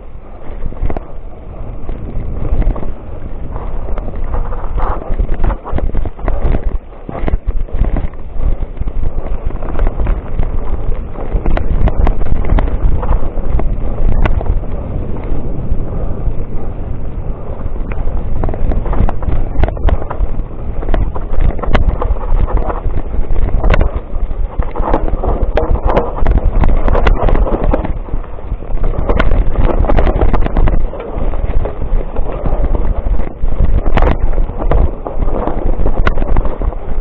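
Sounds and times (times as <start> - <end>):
bike rattling over rough trail: 0.0 - 37.0
wind buffeting microphone: 0.0 - 37.0.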